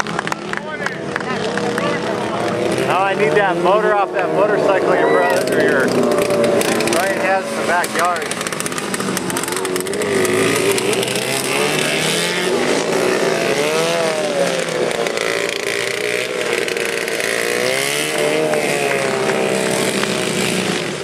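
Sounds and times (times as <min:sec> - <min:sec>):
lawnmower engine revving: 0:00.0 - 0:21.0.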